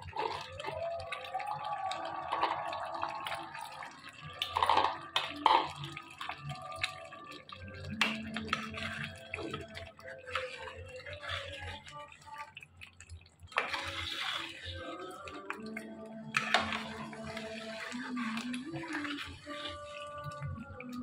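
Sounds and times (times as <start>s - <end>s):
thick curry bubbling in a pot: 0.0s - 21.0s.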